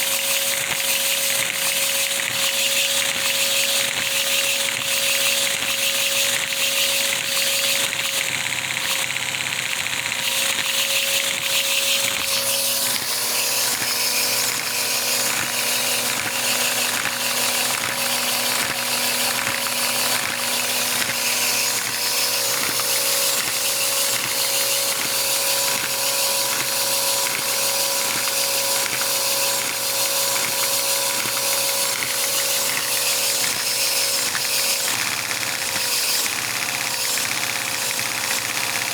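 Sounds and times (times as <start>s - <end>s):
plastic engine whirring and clicking: 0.0s - 38.9s.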